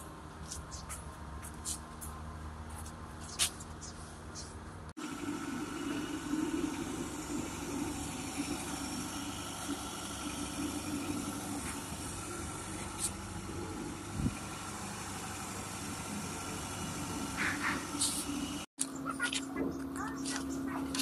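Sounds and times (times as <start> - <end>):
engine idling: 3.8 - 21.0.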